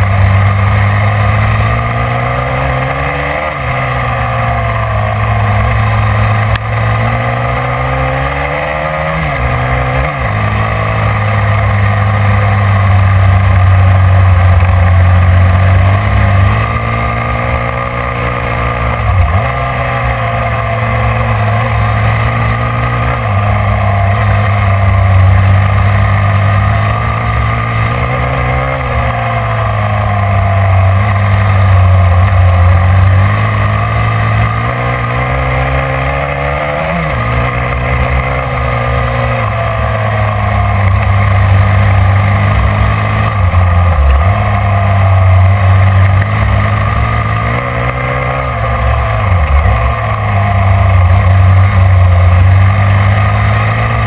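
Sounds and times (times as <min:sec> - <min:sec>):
small engine revving high: 0:00.0 - 0:54.0.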